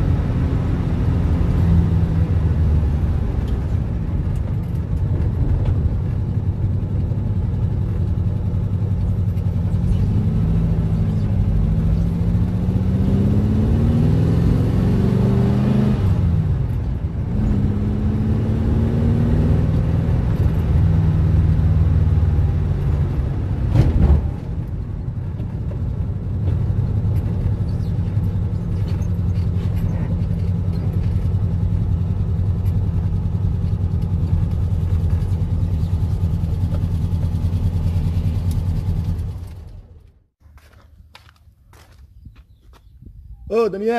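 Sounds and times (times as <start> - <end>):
car engine accelerating: 0.0 - 40.2.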